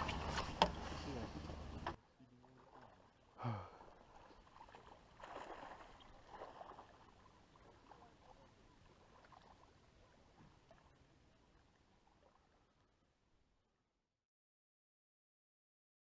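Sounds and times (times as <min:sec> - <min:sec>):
water lapping around boat: 0:00.0 - 0:13.5.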